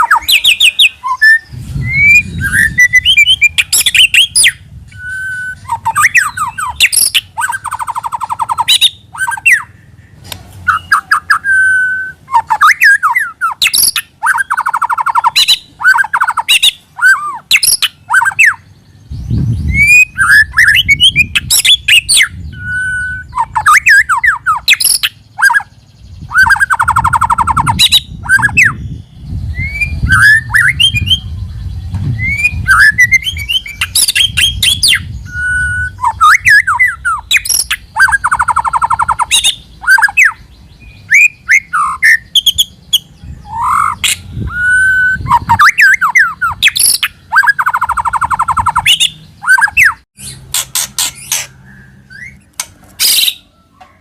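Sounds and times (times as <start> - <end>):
bird trills: 0.0 - 19.1, 19.7 - 54.0
bird singing varied song: 0.0 - 54.0.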